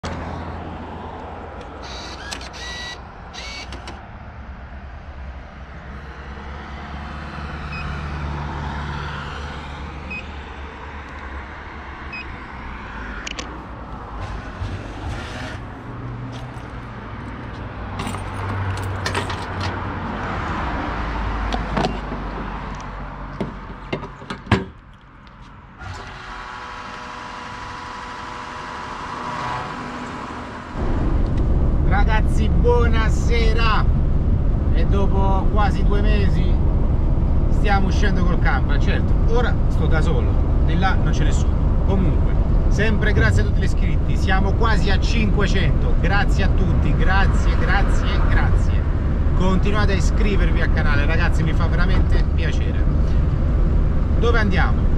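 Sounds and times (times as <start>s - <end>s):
road noise: 0.0s - 54.9s.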